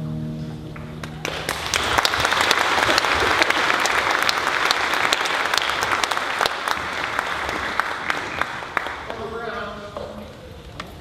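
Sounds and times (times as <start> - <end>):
audience clapping: 0.7 - 11.0.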